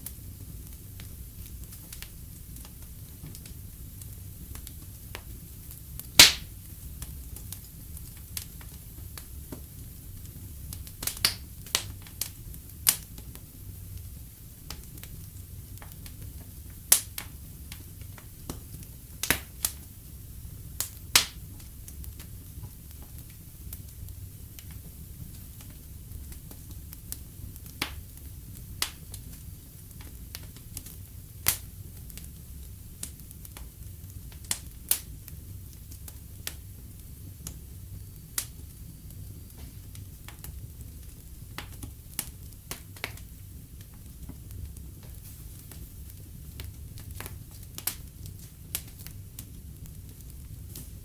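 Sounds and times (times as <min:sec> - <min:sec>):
burning logs crackling and popping: 0:00.0 - 0:51.0
fire flames rumbling: 0:00.0 - 0:51.0.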